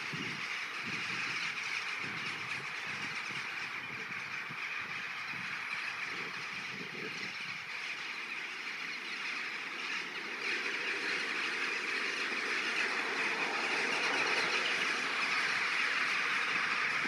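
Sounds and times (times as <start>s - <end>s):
flock of rooks and jackdaws calling: 0.0s - 17.0s.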